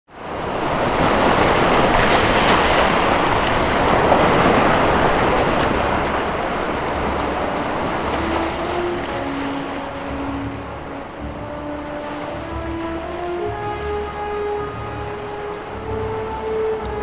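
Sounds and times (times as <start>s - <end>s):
waves breaking on shore: 0.1s - 17.0s.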